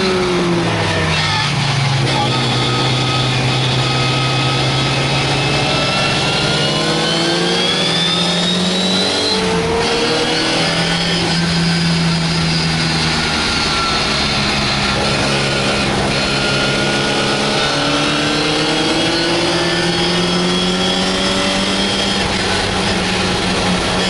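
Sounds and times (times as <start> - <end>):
race car engine at full throttle: 0.0 - 24.0
wind and road noise: 0.0 - 24.0.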